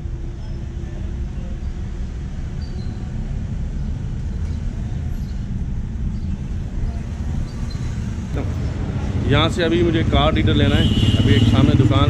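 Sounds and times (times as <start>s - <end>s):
car engine low rumble: 0.0s - 12.0s
road noise: 0.0s - 12.0s.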